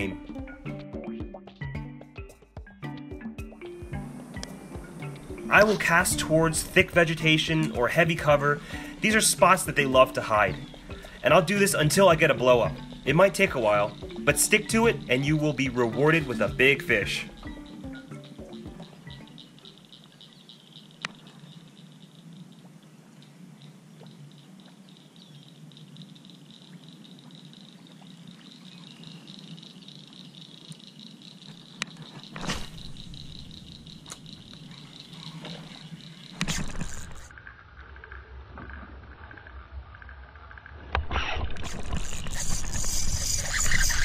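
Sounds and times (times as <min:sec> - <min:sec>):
frogs and insects trilling: 0:00.0 - 0:01.7, 0:02.8 - 0:44.0.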